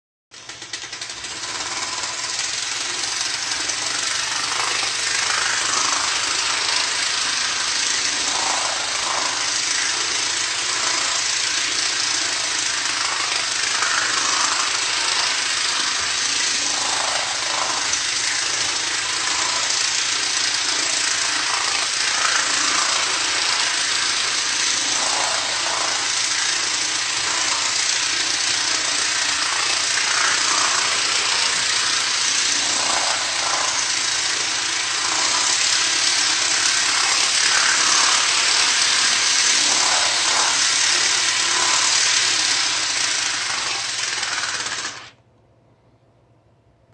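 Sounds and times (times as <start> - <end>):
toy train motor buzzing: 0.3 - 45.2
toy train wheel clatter: 0.3 - 45.2.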